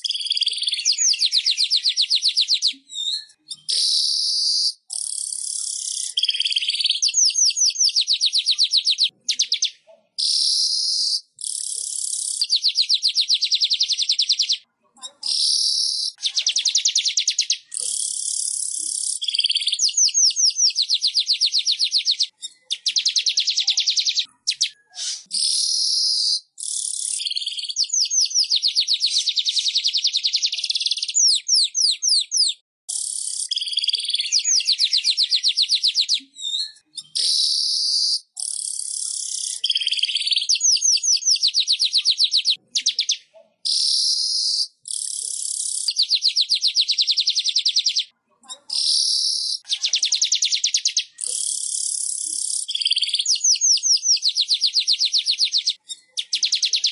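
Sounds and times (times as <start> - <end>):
weaver bird song: 0.0 - 56.9.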